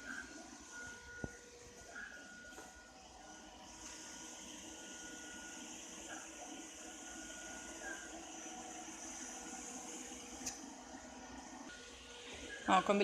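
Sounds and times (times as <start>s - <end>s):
robot vacuum motor whine: 0.0s - 13.0s.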